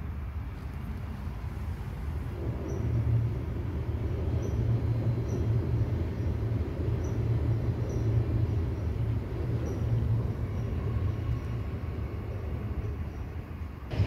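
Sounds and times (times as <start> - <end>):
train rumbling across bridge: 0.0 - 14.0.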